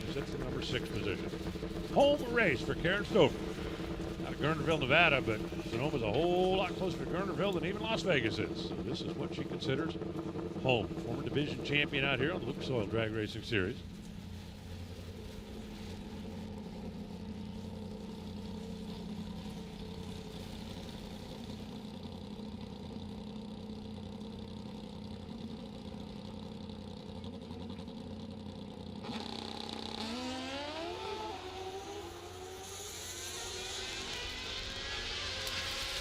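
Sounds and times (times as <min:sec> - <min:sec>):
drag racing motorcycles revving: 0:00.0 - 0:22.3, 0:28.6 - 0:36.0.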